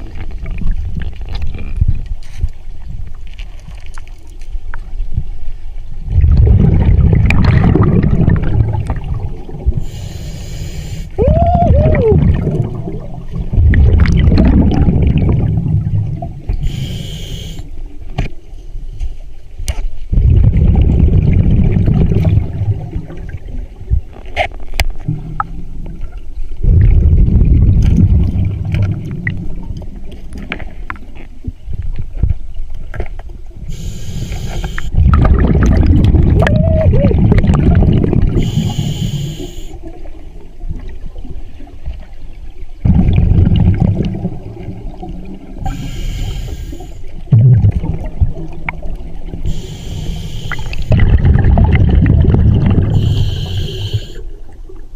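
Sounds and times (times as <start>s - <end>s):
underwater bubbling and gurgling: 0.0s - 54.9s.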